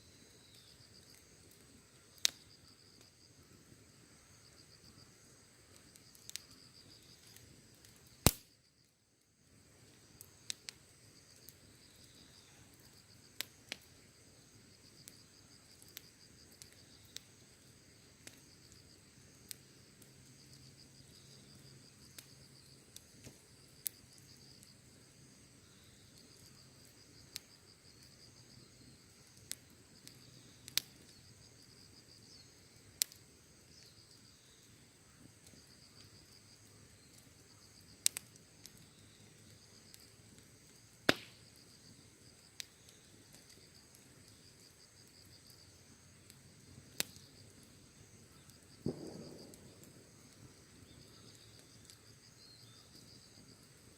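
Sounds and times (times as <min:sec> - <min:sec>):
insects chirring: 0:00.0 - 0:53.9
campfire crackling and popping: 0:00.1 - 0:53.9.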